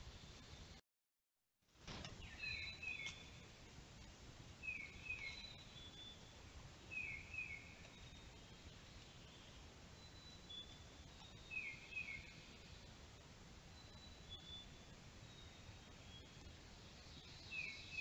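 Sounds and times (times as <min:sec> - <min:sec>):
faint steady hiss: 0:00.0 - 0:00.8, 0:01.7 - 0:18.0.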